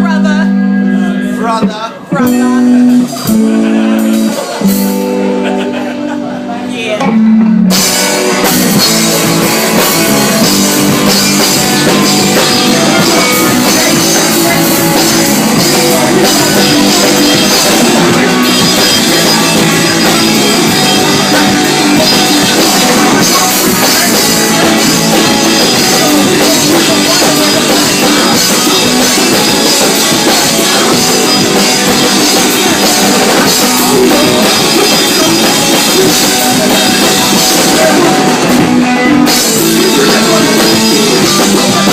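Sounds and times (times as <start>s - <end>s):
electric guitar: 0.0s - 41.9s
drum kit: 1.4s - 41.9s.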